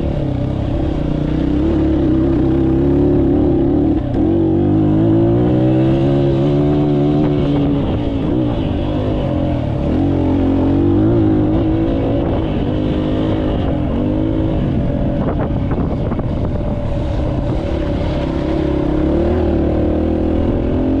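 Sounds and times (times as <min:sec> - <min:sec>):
dirt bike engine revving: 0:00.0 - 0:16.2, 0:16.8 - 0:21.0.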